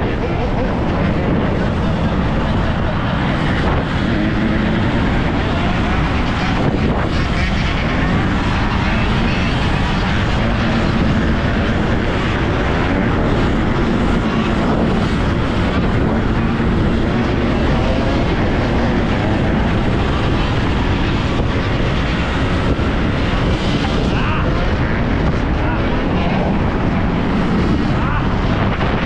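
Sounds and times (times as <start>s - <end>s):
wind rushing on microphone: 0.0s - 29.0s.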